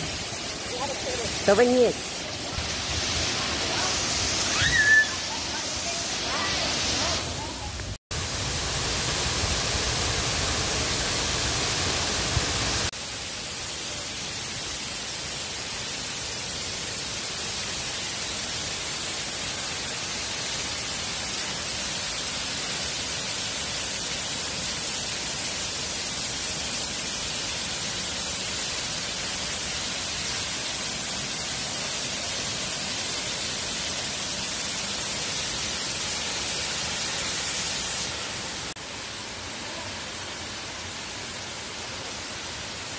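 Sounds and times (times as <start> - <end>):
waterfall rushing over rock: 0.0 - 42.9.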